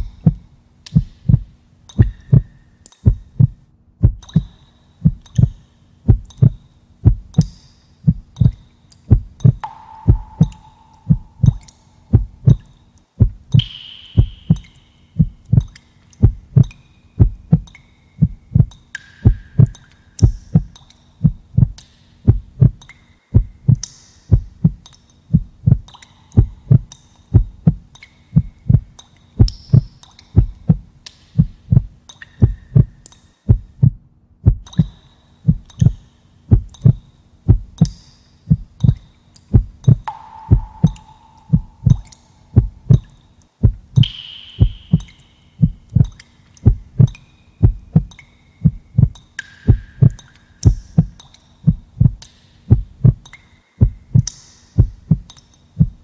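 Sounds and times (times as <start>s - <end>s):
heartbeat thumps: 0.0s - 12.6s, 13.2s - 34.9s, 35.5s - 53.2s, 53.8s - 56.0s.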